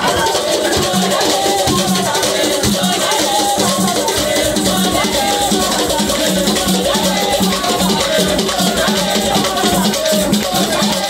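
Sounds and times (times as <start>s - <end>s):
group singing: 0.0s - 11.0s
rattle shaken rhythmically: 0.0s - 11.0s.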